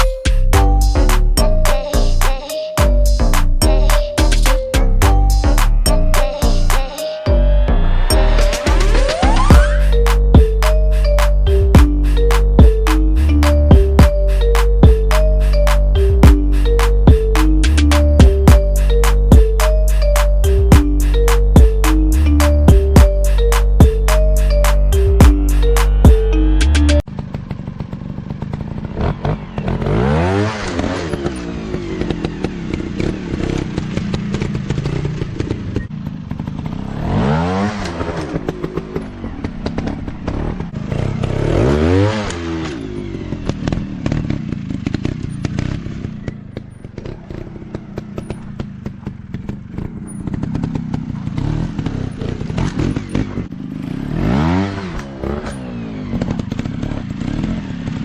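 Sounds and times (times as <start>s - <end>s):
dirt bike engines revving: 2.9s - 58.0s.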